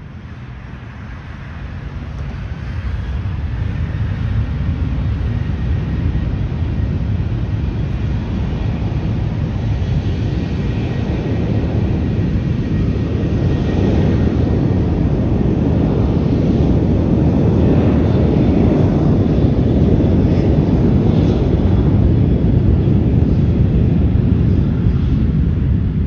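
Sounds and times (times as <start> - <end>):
jet engines deep rumble: 0.0 - 26.0.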